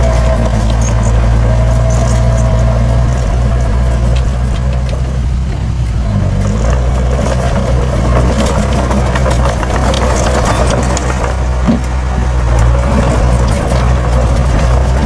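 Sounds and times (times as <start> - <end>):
diesel engine running: 0.0 - 15.0
rattles and clicks: 0.0 - 15.0.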